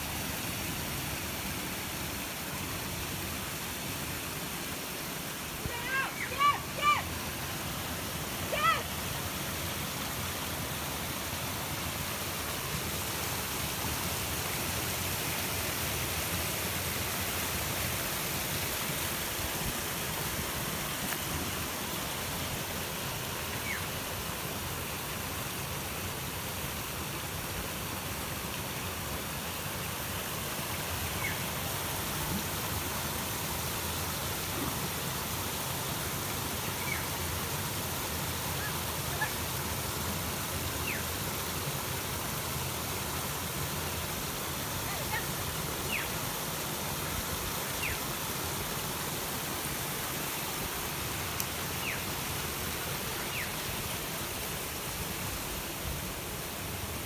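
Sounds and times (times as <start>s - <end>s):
creek water rushing over rocks: 0.0s - 57.0s.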